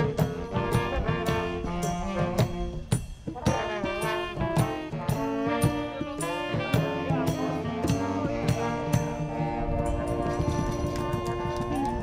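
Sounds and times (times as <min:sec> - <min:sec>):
bass drum and cymbal beat: 0:00.0 - 0:12.0
saxophone and horn lines: 0:00.0 - 0:12.0.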